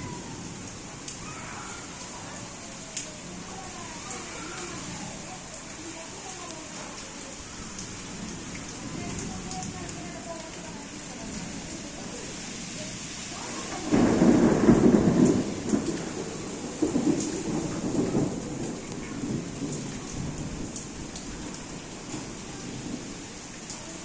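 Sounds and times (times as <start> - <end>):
thunder rumbling: 0.0 - 5.8, 7.4 - 24.0
steady rain falling: 0.0 - 24.0.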